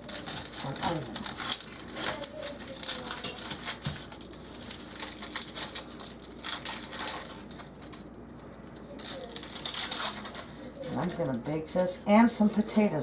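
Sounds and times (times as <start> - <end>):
onion skin rustling and crackling: 0.0 - 12.0.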